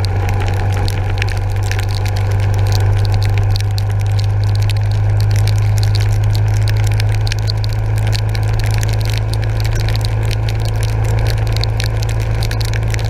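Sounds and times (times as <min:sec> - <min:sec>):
motorcycle engine running: 0:00.0 - 0:12.9
raindrops ticking on camera: 0:00.0 - 0:13.0.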